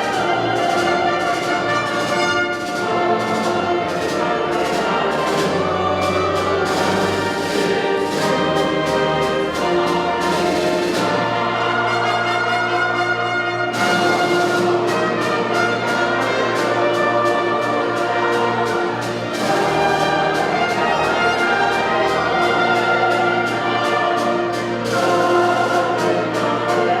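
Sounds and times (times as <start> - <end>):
orchestra with prominent brass: 0.0 - 27.0.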